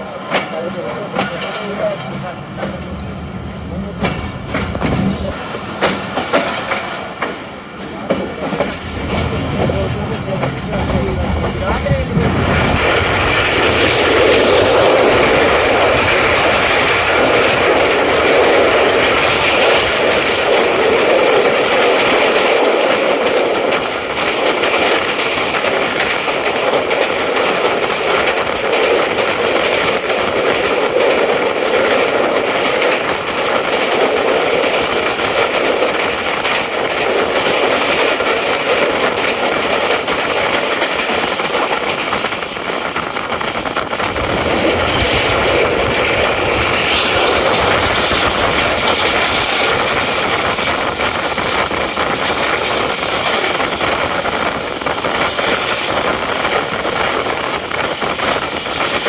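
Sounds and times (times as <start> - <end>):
train wheels on rail and wind: 0.0 - 59.0.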